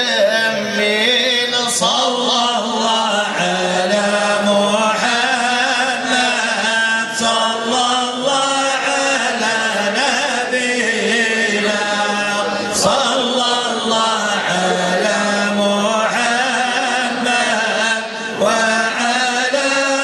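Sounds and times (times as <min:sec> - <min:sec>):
men chanting: 0:00.0 - 0:20.0.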